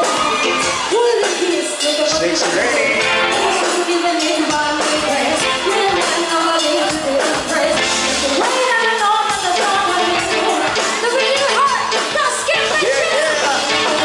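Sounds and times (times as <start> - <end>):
live party band playing: 0.0 - 14.0
person singing: 0.0 - 14.0.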